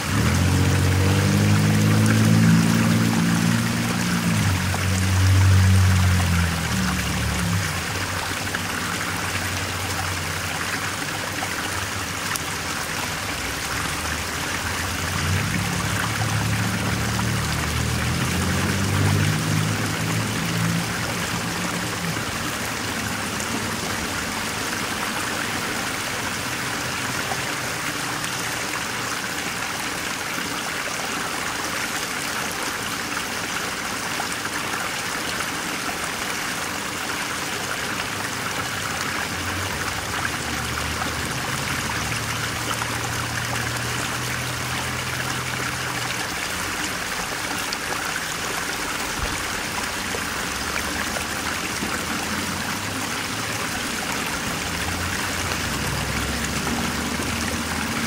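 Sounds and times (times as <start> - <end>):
stream of running water: 0.0 - 58.0.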